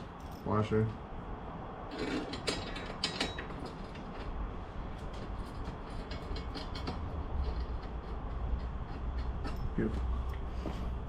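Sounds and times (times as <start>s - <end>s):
metal bolts clicking and scraping: 1.9s - 11.0s.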